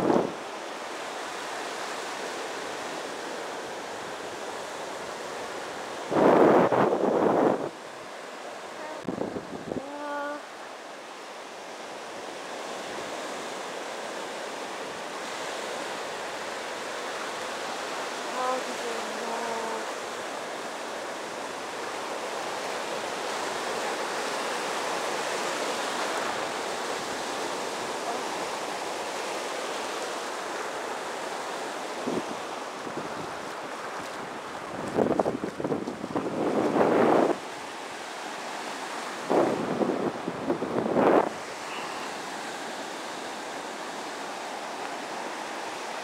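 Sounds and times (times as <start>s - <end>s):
small waves washing on sand: 0.0s - 46.0s.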